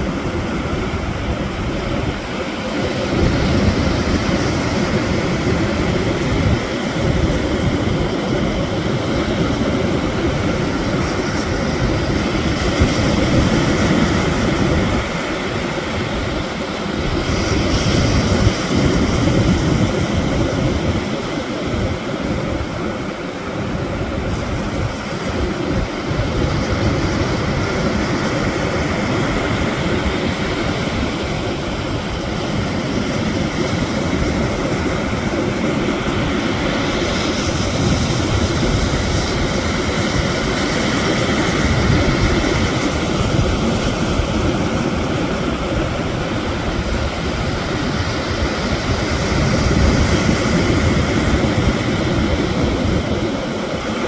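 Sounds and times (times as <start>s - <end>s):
surf washing over stones: 0.0s - 54.0s
wind rumble on microphone: 0.0s - 54.0s.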